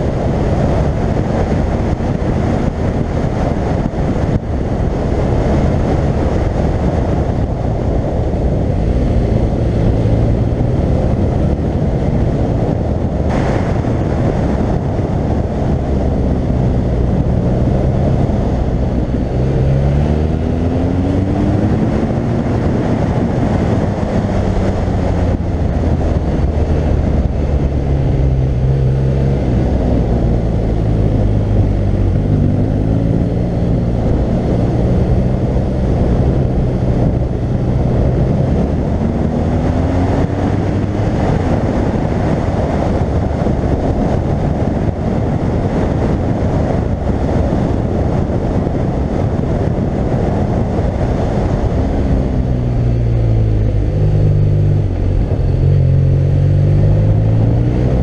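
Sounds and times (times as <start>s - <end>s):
motorcycle engine accelerating: 0.0s - 58.0s
wind rush on camera: 0.0s - 58.0s.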